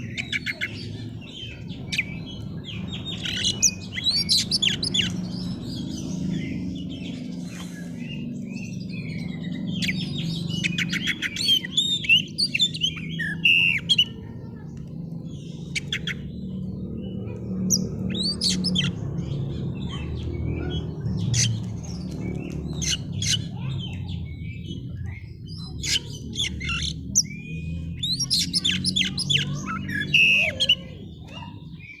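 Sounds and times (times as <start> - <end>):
magpie-robin singing: 0.0 - 32.0.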